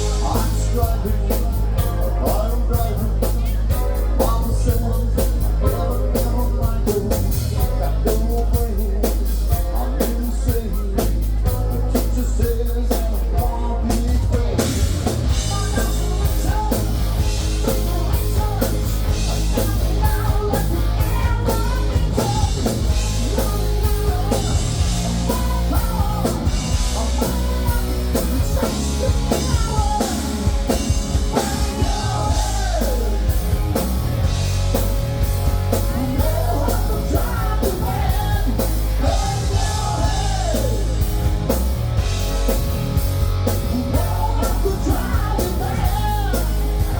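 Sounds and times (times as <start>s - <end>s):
person singing and yelling: 0.0s - 34.6s, 35.7s - 41.2s, 43.4s - 46.9s
bass guitar: 0.0s - 46.9s
distorted guitar: 0.0s - 46.9s
drum kit: 0.0s - 46.9s.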